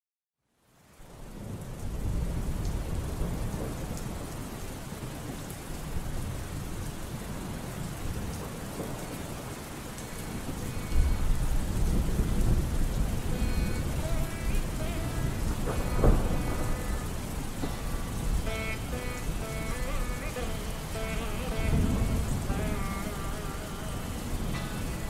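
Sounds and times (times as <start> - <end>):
steady rain: 0.5 - 25.0
thunder rumbling: 1.3 - 25.0.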